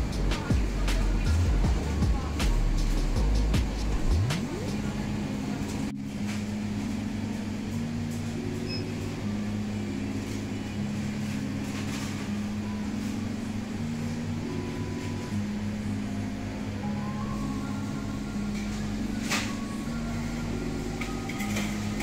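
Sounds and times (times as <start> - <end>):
slow low background music: 0.0 - 22.0.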